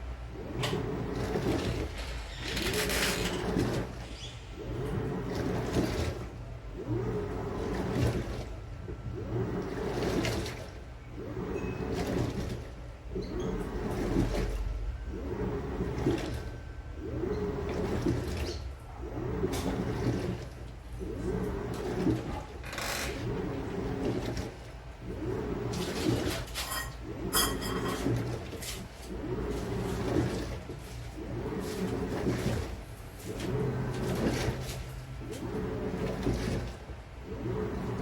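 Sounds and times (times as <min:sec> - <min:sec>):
washing machine motor whining: 0:00.0 - 0:38.0
water sloshing in drum: 0:00.0 - 0:38.0.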